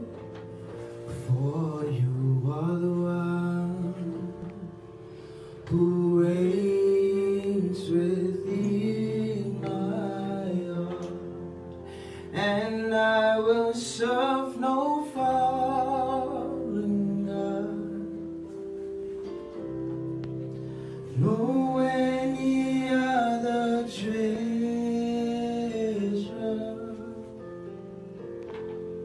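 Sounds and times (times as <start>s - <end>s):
electronic keyboard chords: 0.0s - 29.0s
person singing gospel song: 0.9s - 11.4s, 12.0s - 18.6s, 21.0s - 27.4s.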